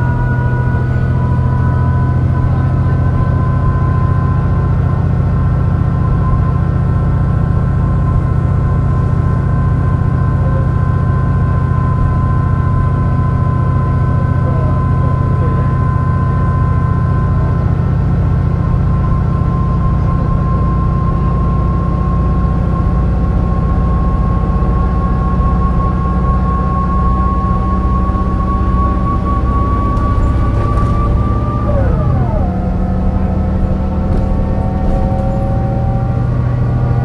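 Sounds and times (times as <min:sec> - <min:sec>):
bus engine rumble: 0:00.0 - 0:37.0
gearbox whine: 0:00.0 - 0:37.0.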